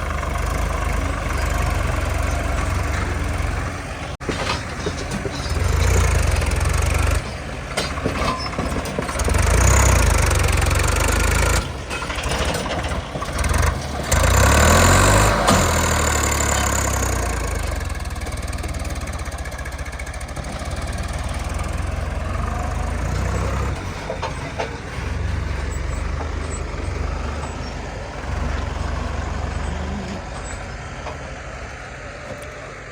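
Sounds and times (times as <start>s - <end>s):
diesel engine rumbling and revving: 0.0s - 32.9s.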